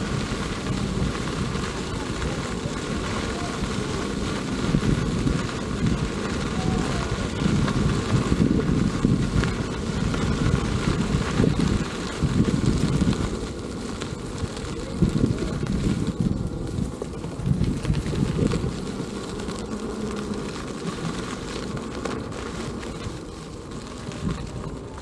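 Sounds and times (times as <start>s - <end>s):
faint steady whine: 0.0s - 25.0s
wind buffeting microphone: 0.0s - 25.0s.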